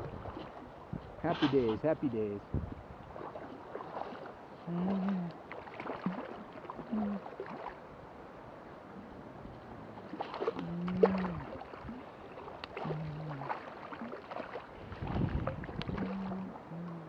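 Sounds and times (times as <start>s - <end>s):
river water splashing: 0.0s - 17.0s
rush of water: 0.0s - 17.0s
low humming tones: 3.1s - 17.0s.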